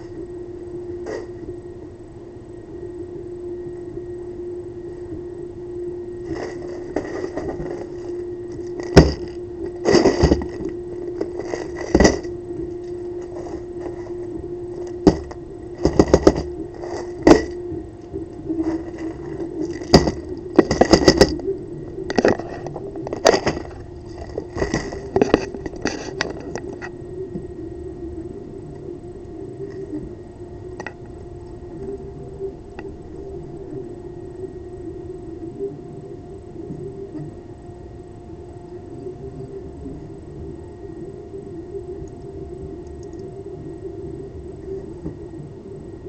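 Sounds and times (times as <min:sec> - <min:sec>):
steady hum: 0:00.0 - 0:46.0.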